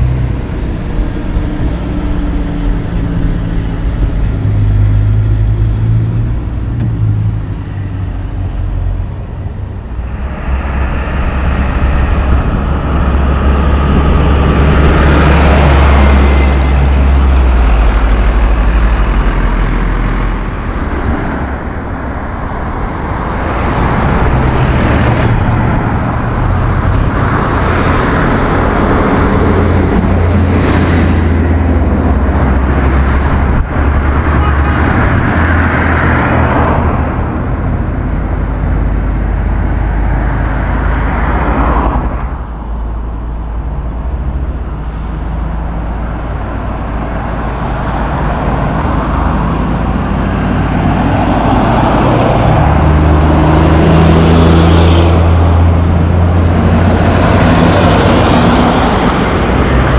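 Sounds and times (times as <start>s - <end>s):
diesel trucks driving past: 0.0s - 59.9s
truck engine drone: 0.0s - 59.9s.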